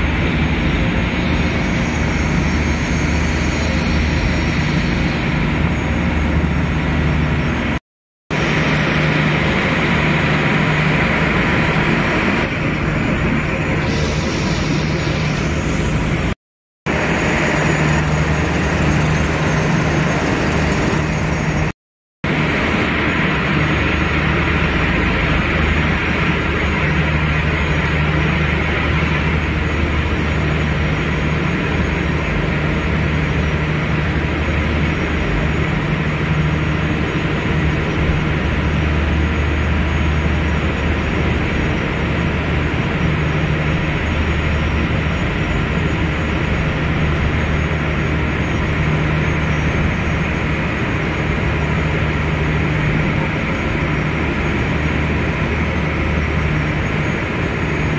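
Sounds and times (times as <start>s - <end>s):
boat engine humming: 0.0s - 57.9s
wind and water rushing: 0.0s - 57.9s.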